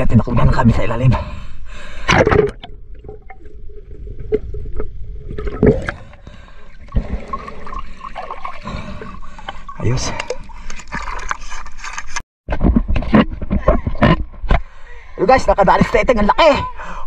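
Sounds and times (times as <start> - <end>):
water sloshing and gurgling: 0.2 - 15.2.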